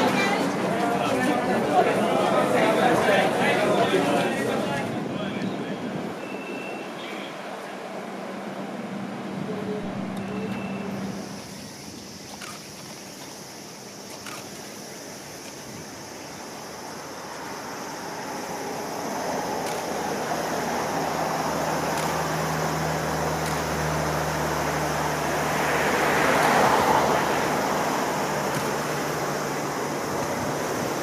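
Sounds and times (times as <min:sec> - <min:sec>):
car passing: 0:00.0 - 0:12.2, 0:16.5 - 0:31.0
low steady tram hum: 0:00.0 - 0:31.0.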